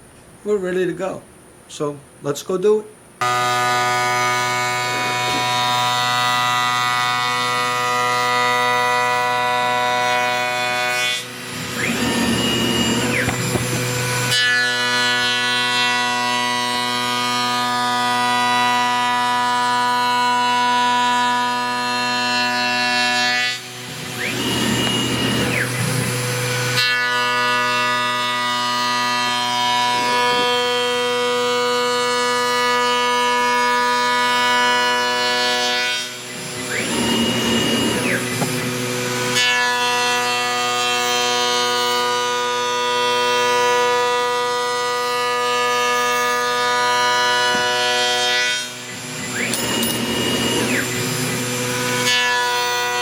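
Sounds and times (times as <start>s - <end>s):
cnc router whining: 3.2s - 53.0s.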